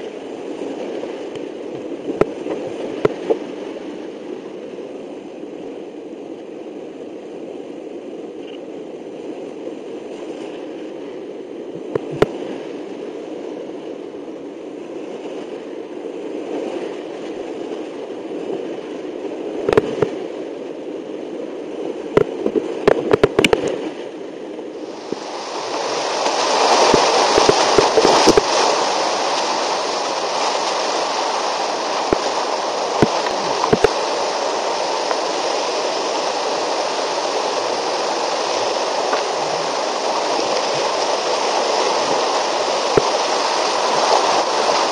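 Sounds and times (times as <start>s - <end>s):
whitewater rushing around kayak: 0.0s - 44.9s.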